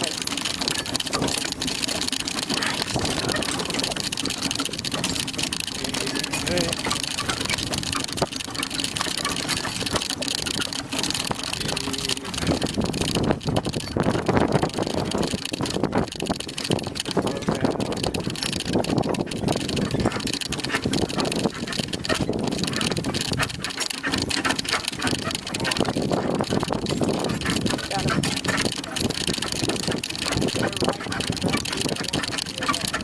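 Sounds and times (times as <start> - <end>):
cart wheels rumbling and rattling: 0.0 - 33.0.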